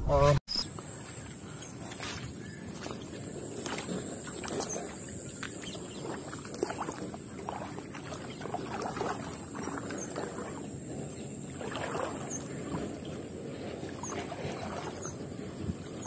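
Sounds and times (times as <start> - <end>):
steady high-pitched whine: 0.0 - 16.0.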